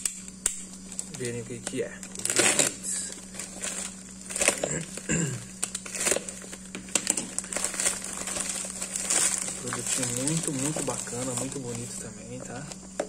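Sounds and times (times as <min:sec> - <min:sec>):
plastic bag crinkling: 0:00.7 - 0:12.9.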